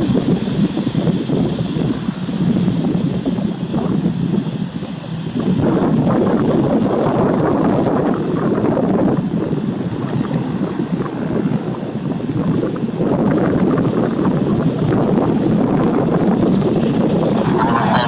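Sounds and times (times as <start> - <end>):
jet engines idling: 0.0 - 18.0
wind buffeting microphone: 0.0 - 18.0.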